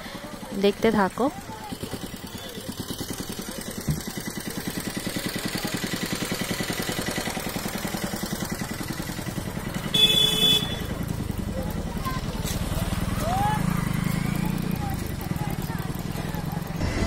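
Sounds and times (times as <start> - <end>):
engine knock: 0.0 - 17.0
small engine chugging: 0.0 - 17.0.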